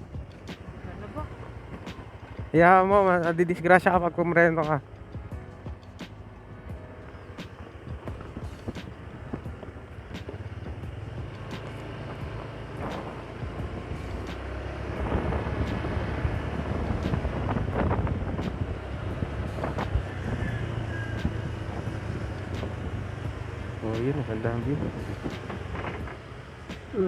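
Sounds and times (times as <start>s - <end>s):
scooter engine and road rumble: 0.0s - 27.0s
wind buffeting microphone: 0.0s - 27.0s.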